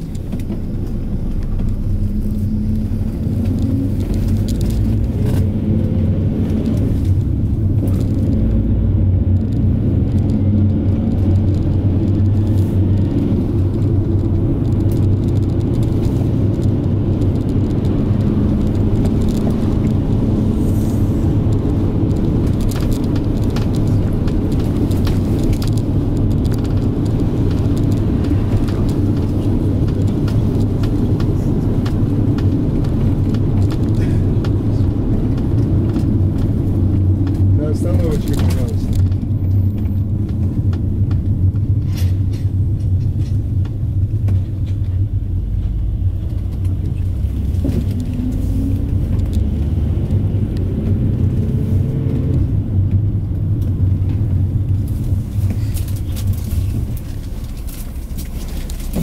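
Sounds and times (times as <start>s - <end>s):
light rattle inside vehicle: 0.0s - 59.0s
minibus engine and road rumble: 0.0s - 59.0s.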